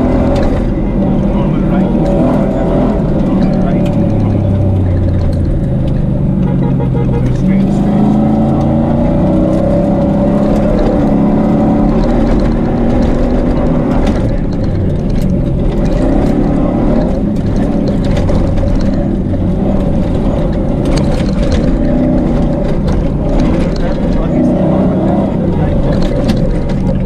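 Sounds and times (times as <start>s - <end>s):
engine running hard: 0.0s - 27.0s
knocks and rattles: 0.0s - 27.0s
tyre and track noise: 0.0s - 27.0s.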